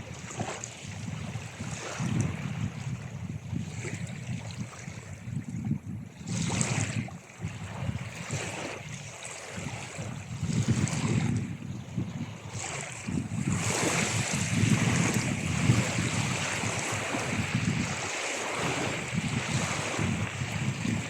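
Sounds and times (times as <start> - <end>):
sea waves breaking on shore: 0.0 - 21.0.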